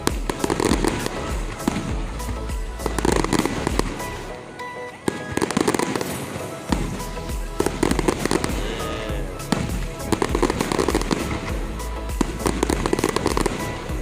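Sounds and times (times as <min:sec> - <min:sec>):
fireworks bangs and crackling: 0:00.0 - 0:14.0
music playing: 0:00.0 - 0:14.0.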